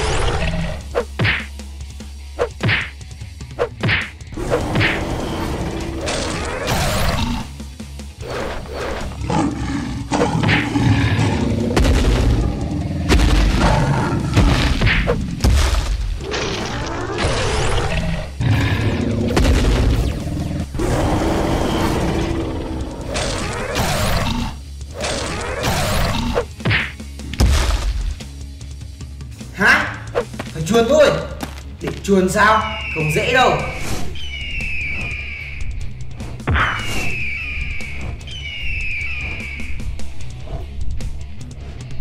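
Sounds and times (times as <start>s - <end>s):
action background music: 0.0s - 42.0s.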